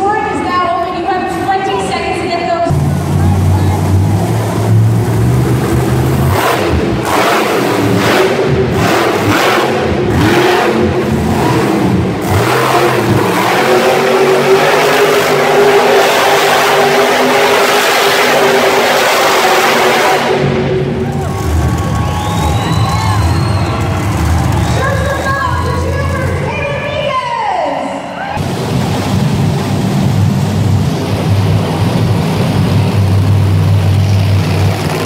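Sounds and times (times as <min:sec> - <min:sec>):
monster truck engine revving: 0:02.6 - 0:27.1, 0:27.8 - 0:35.0.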